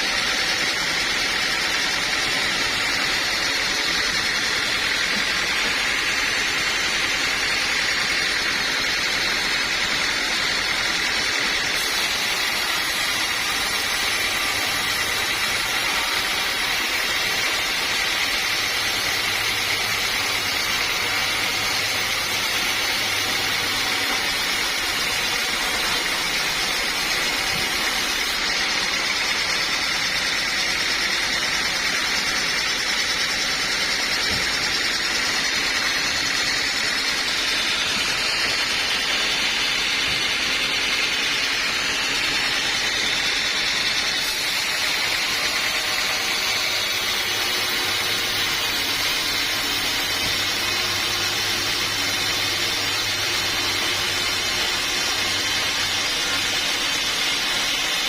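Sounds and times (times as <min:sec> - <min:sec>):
high mechanical hum: 0:00.0 - 0:58.0
sawmill machinery running: 0:00.0 - 0:58.0.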